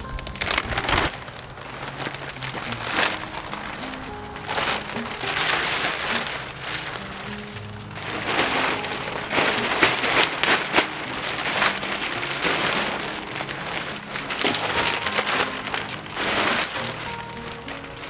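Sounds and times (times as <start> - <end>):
plastic sheeting crinkling: 0.0 - 18.0.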